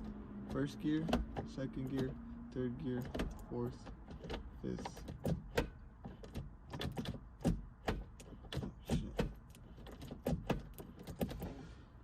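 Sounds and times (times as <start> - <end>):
gear shifter clicks and clunks: 0.0 - 12.0.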